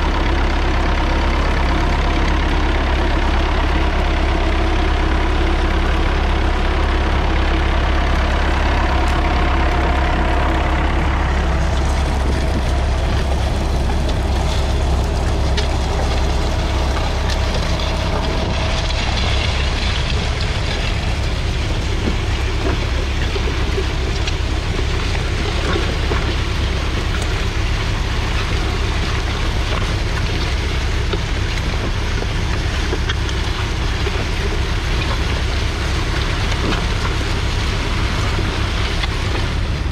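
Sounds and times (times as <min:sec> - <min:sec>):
diesel tractor engine rumbling: 0:00.0 - 0:39.9.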